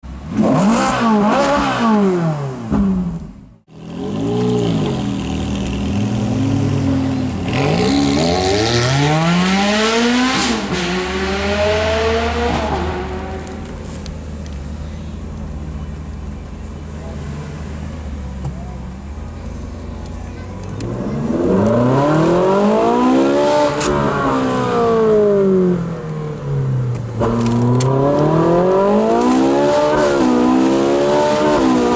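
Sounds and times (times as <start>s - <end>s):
sports car engine revving: 0.1s - 31.9s.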